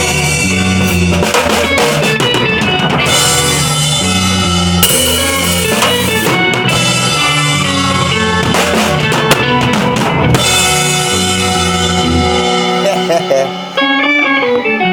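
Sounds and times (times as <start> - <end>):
drum kit: 0.0 - 14.9.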